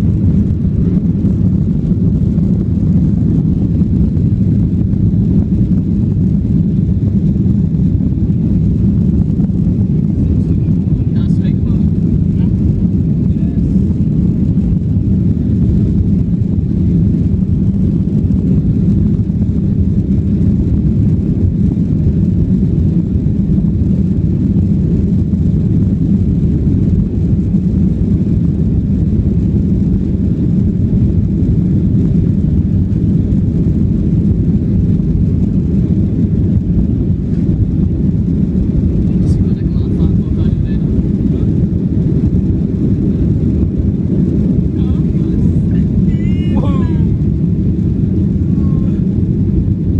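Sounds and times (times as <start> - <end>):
airliner engine rumble: 0.0 - 49.9.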